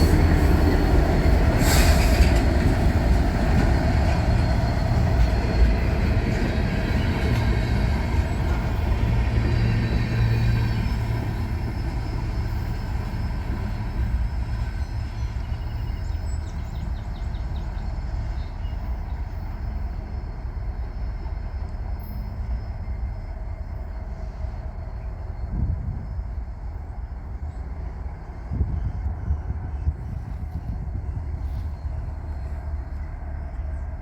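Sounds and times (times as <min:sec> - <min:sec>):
freight train rumbling on track: 0:00.0 - 0:34.0.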